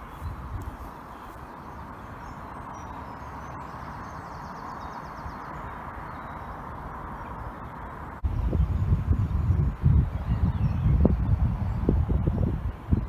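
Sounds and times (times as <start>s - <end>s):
steady outdoor hiss: 0.0s - 13.0s
wind rumbling on microphone: 0.0s - 13.0s.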